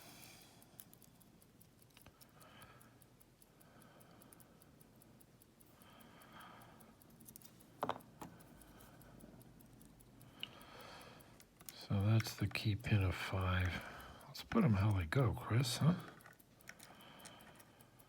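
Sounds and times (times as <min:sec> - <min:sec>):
sharp clicks: 0:00.0 - 0:18.0
small metal clicks and taps: 0:00.0 - 0:18.0.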